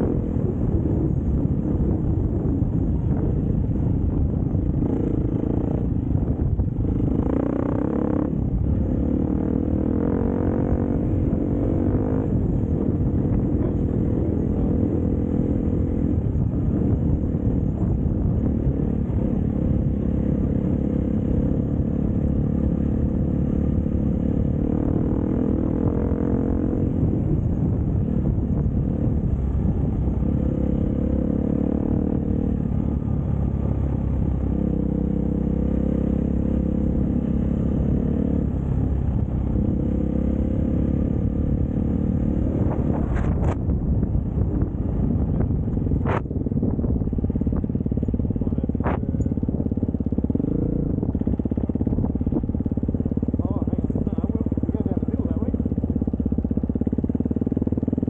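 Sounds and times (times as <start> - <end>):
dirt bike engine running: 0.0 - 58.0
wind noise on microphone: 0.0 - 58.0.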